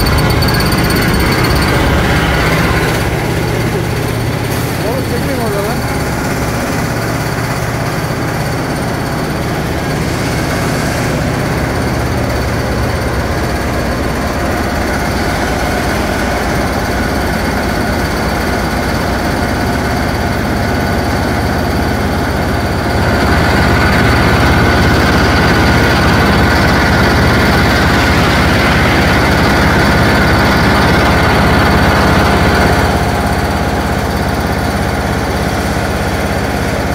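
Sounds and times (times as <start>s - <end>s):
mechanical hum: 0.0s - 36.9s.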